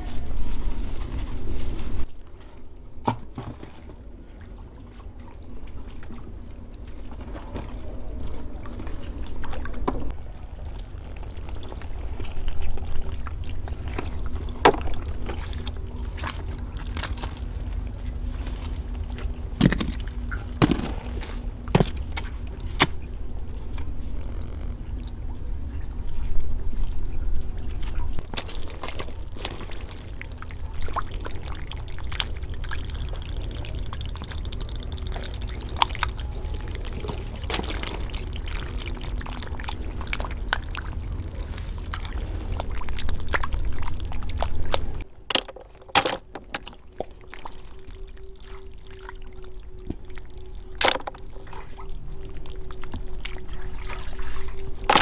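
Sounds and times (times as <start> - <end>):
low rumble: 0.0 - 45.3
water sloshing and splashing: 0.0 - 55.0.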